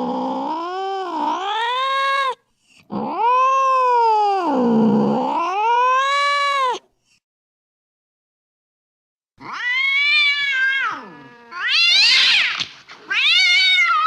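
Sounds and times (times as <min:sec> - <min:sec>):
cat yowling: 0:00.0 - 0:06.8, 0:09.4 - 0:14.0.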